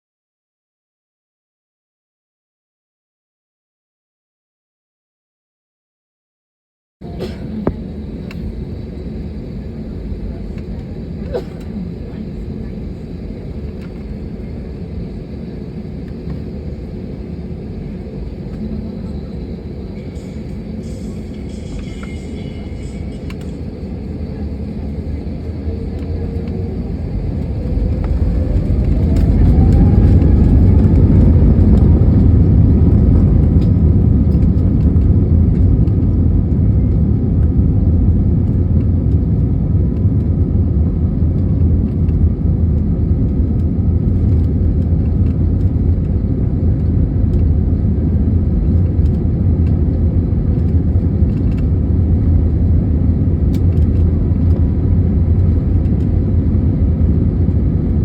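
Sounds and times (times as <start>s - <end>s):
jet engines spooling up: 7.4s - 57.8s.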